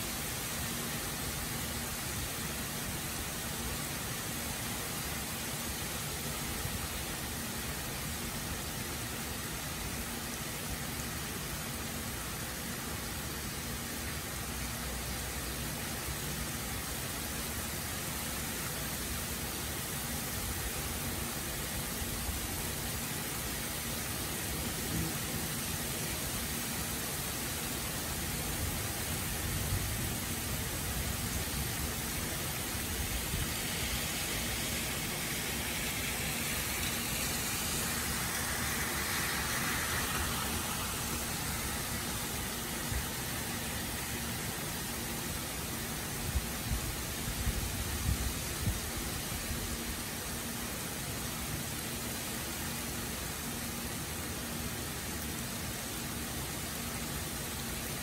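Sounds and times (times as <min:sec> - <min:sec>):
heavy rain on pavement and grass: 0:00.0 - 0:58.0.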